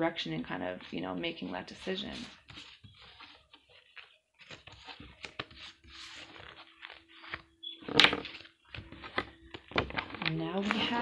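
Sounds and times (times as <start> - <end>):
cards being shuffled: 0.8 - 11.0.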